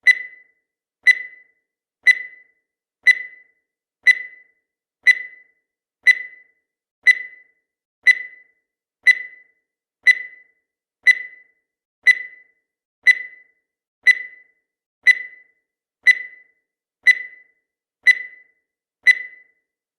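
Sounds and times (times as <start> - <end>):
short high-pitched beeps: 0.0 - 2.5, 3.1 - 3.5, 4.1 - 4.5, 5.1 - 7.5, 8.1 - 8.5, 9.1 - 9.5, 10.1 - 19.6.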